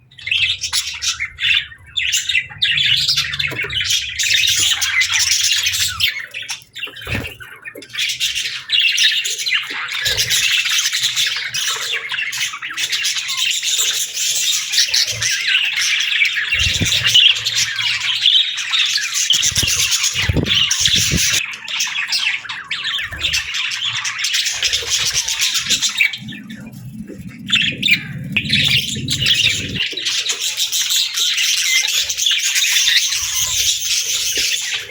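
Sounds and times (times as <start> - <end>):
budgerigars chattering and chirping: 0.2 - 26.4, 27.4 - 34.9.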